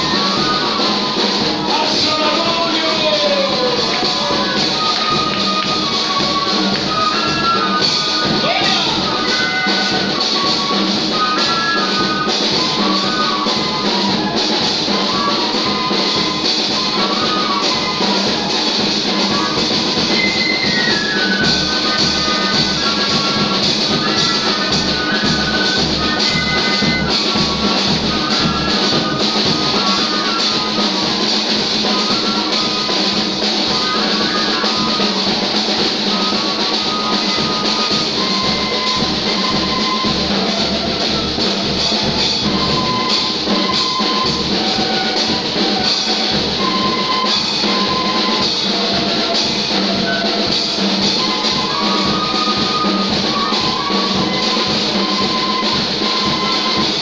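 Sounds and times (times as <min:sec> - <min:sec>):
band music with drum beat: 0:00.0 - 0:57.0.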